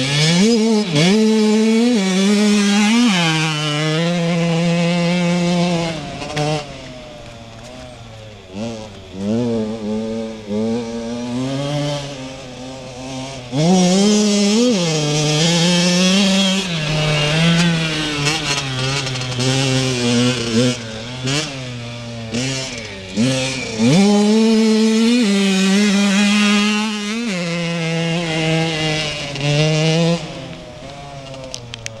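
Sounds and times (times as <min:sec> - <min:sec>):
motocross bike revving: 0:00.0 - 0:32.0.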